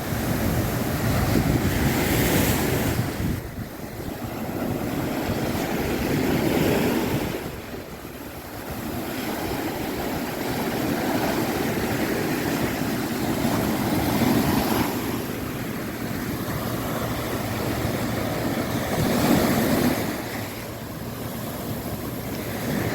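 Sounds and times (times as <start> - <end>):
surf breaking on a beach: 0.0 - 22.9.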